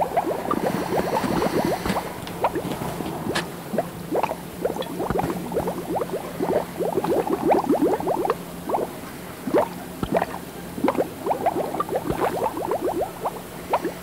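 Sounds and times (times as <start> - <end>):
gurgling bubble pops: 0.0 - 14.0
low steady hum: 0.0 - 14.0.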